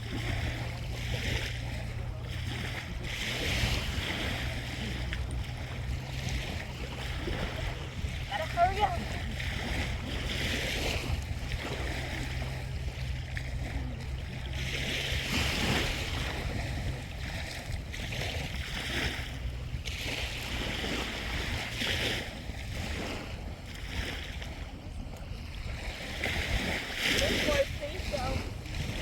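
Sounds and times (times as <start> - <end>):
waves washing on shore: 0.0 - 29.0
wind rumble on microphone: 0.0 - 29.0.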